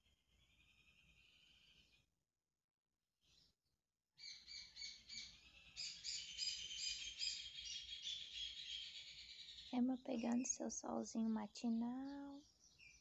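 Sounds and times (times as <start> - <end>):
small birds chirping: 0.3 - 2.1, 4.2 - 13.0.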